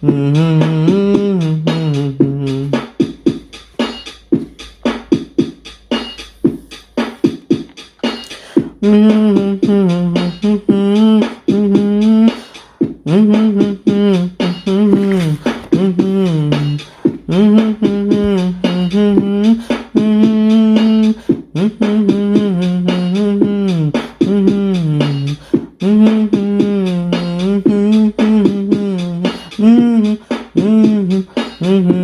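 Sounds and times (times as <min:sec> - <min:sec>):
person singing: 0:00.0 - 0:03.1, 0:08.2 - 0:32.0
fast percussive beat: 0:00.0 - 0:32.0.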